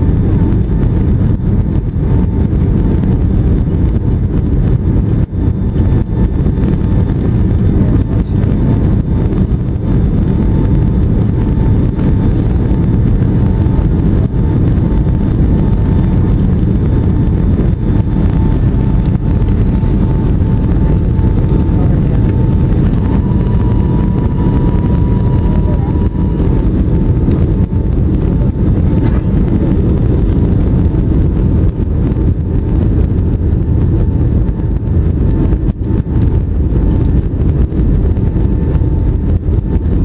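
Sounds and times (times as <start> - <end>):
airliner engine and airflow rush: 0.0 - 40.0
faint constant whine: 0.0 - 40.0.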